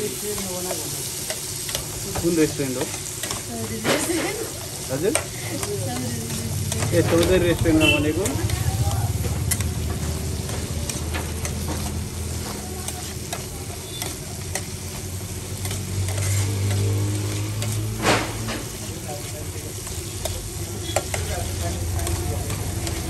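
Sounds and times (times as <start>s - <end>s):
meat sizzling in oil: 0.0s - 23.0s
spatula scraping a pan: 0.2s - 23.0s.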